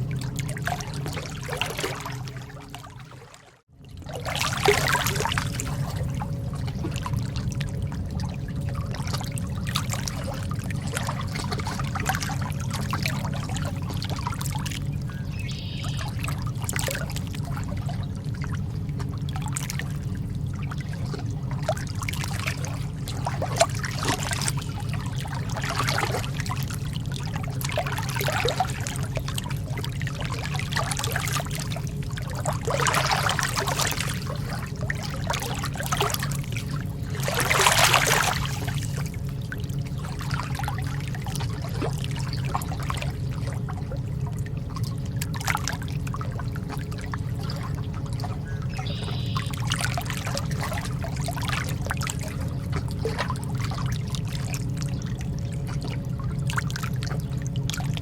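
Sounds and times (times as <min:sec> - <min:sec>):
sea water lapping: 0:00.0 - 0:58.0
small splashes and trickles: 0:00.0 - 0:58.0
steady low rumble: 0:00.0 - 0:58.0.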